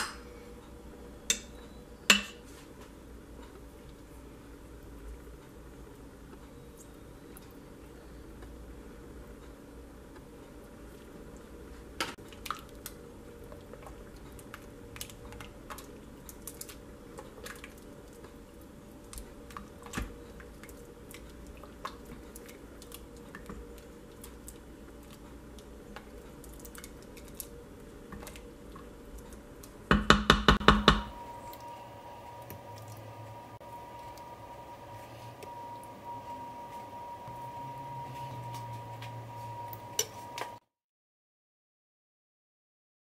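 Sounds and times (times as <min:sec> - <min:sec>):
low steady hum: 0:00.0 - 0:40.6.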